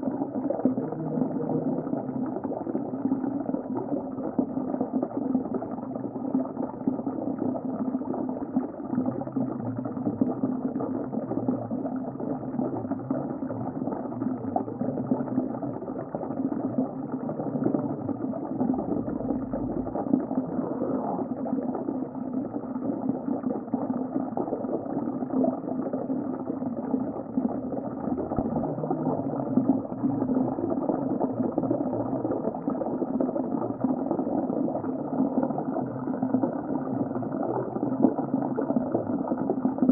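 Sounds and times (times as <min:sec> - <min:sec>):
low underwater hums: 0:00.0 - 0:39.9
muffled underwater water noise: 0:00.0 - 0:39.9.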